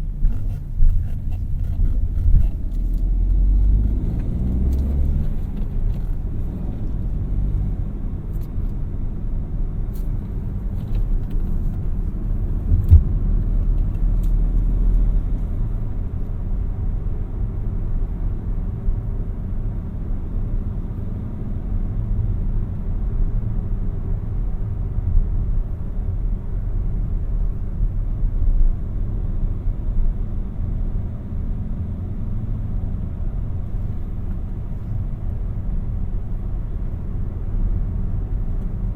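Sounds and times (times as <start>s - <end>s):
car engine rumble: 0.0s - 38.9s
road noise: 0.0s - 38.9s.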